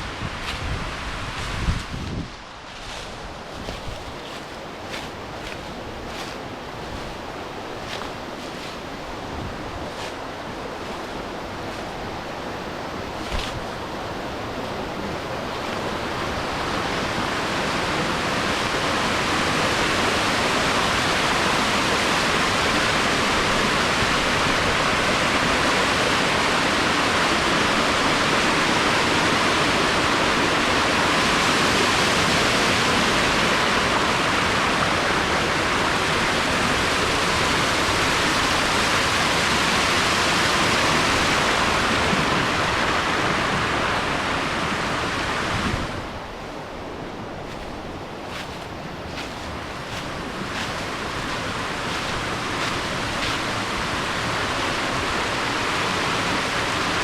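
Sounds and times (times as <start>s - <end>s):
waterfall rushing water: 3.3s - 57.0s.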